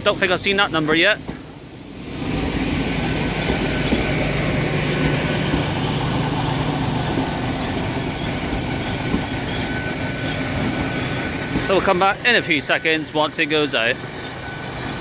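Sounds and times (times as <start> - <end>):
continuous high squeal: 0.0 - 15.0
train diesel engine hum: 0.0 - 15.0.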